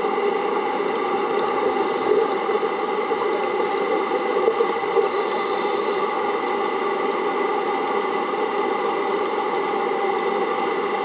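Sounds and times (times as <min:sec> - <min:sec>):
underwater pump hum: 0:00.0 - 0:11.0.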